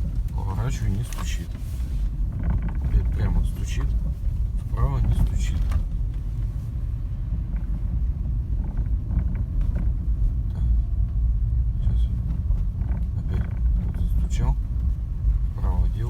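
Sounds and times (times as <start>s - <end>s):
faint light rattling knocks: 0.0s - 11.4s, 12.0s - 16.0s.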